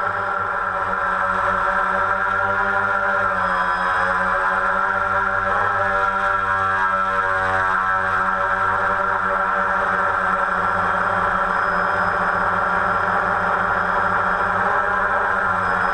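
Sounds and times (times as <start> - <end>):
drone motors buzzing: 0.0 - 15.9.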